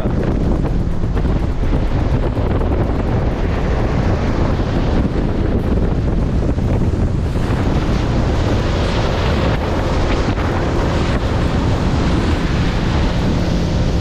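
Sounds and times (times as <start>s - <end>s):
boat motor rumble: 0.0s - 14.0s
rushing water: 0.0s - 14.0s
wind buffeting microphone: 0.0s - 14.0s.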